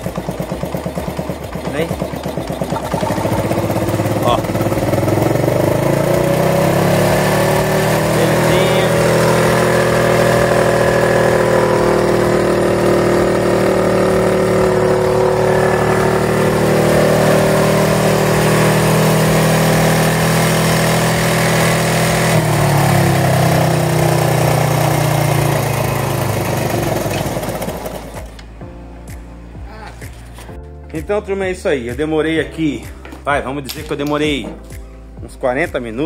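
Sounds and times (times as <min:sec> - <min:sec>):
motorcycle engine running: 0:00.0 - 0:30.5.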